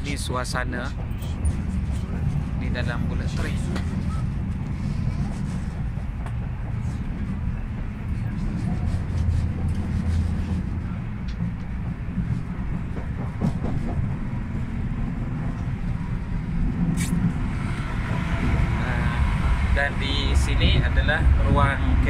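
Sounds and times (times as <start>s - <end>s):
train carriage rumble: 0.0s - 22.0s.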